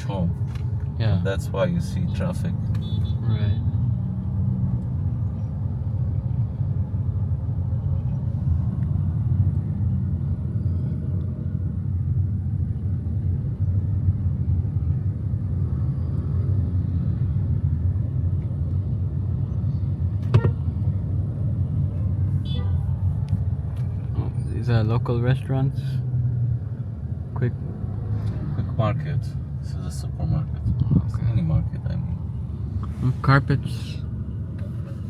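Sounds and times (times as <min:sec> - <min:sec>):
car driving in traffic: 0:00.0 - 0:35.0.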